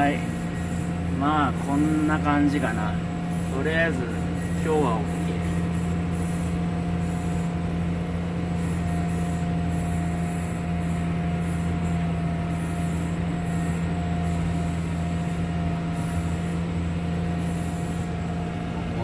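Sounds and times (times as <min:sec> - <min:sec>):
faint steady whine: 0:00.0 - 0:19.0
tractor engine droning: 0:00.0 - 0:19.0.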